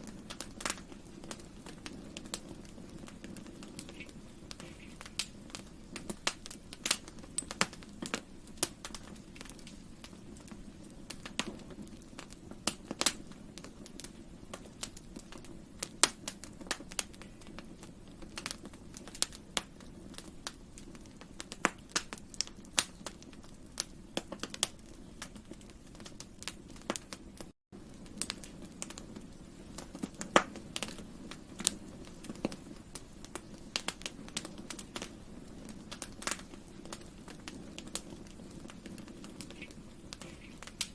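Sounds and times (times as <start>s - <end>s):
campfire pops and snaps: 0.0s - 40.9s
low rumble of burning fire: 0.0s - 40.9s.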